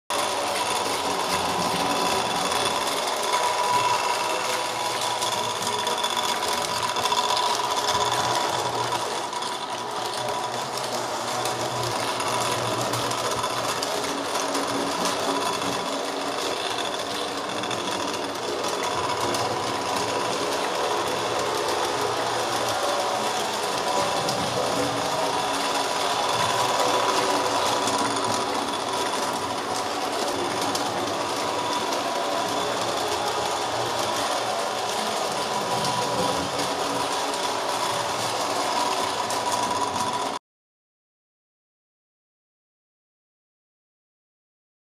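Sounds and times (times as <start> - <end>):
toy train motor whirring: 0.1 - 40.4
wheels on metal rails: 0.1 - 40.4.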